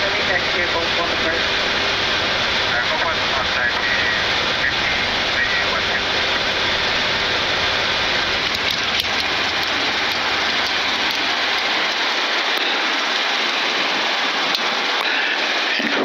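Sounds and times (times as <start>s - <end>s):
airflow hiss in cockpit: 0.0s - 16.0s
jet engines spooling down: 0.0s - 16.0s.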